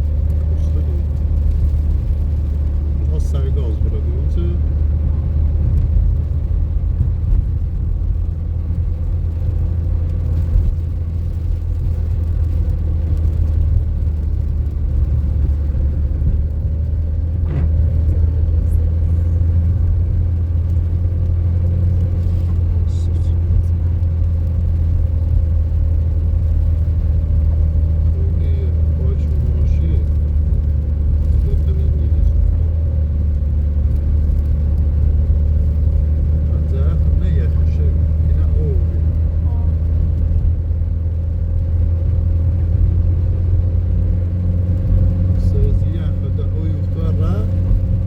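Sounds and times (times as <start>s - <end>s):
vehicle driving rumble: 0.0s - 48.0s.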